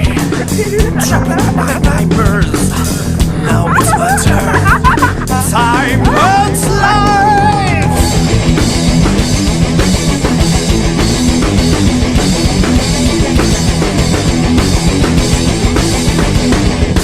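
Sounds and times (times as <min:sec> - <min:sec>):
drum kit fast beat: 0:00.0 - 0:17.0
electric guitar: 0:00.0 - 0:17.0.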